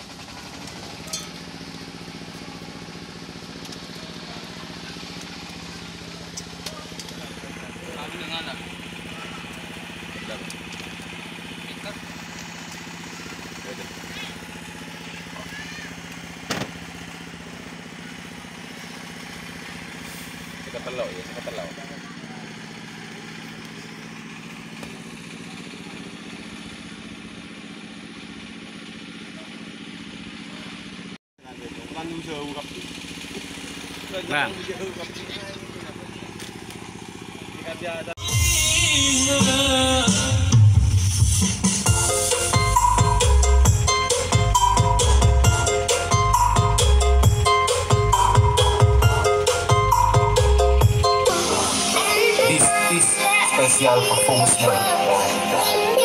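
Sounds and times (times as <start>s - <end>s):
small engine idling: 0.0s - 56.0s.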